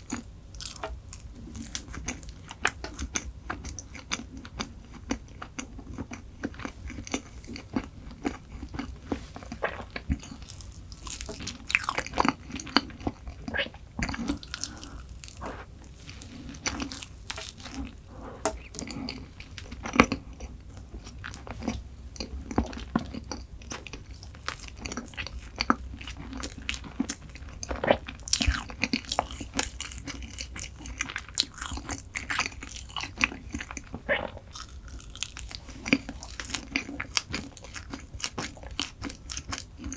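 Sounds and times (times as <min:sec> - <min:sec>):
person chewing chocolate dessert: 0:00.0 - 0:39.9.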